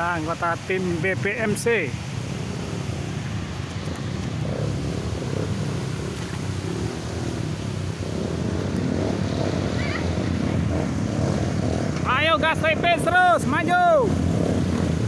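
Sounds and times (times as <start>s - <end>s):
dirt bike engines rumbling: 0.0s - 15.0s
river water rushing: 0.0s - 15.0s.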